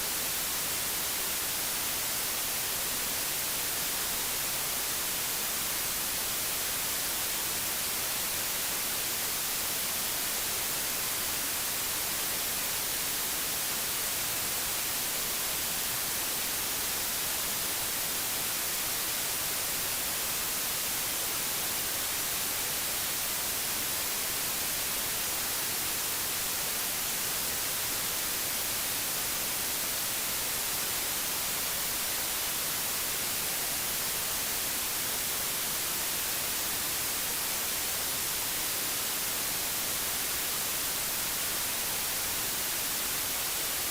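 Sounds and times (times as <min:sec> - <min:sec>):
white noise hiss: 0:00.0 - 0:43.9.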